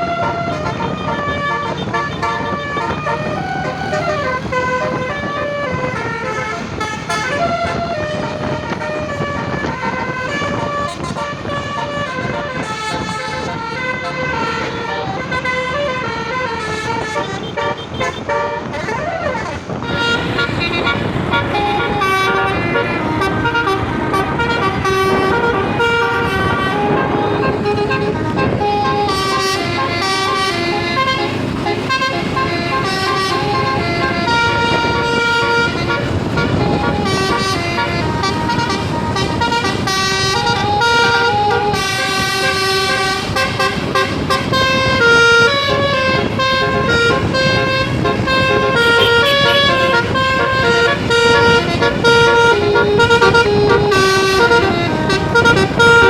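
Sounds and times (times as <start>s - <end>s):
bus air horn melody: 0.0s - 56.0s
bus and traffic noise: 0.0s - 56.0s.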